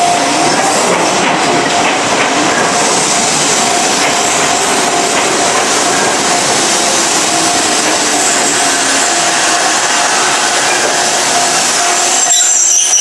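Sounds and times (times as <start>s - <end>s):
crossing warning bell: 0.0s - 0.9s, 1.5s - 13.0s
electric train wheels clacking: 0.0s - 13.0s.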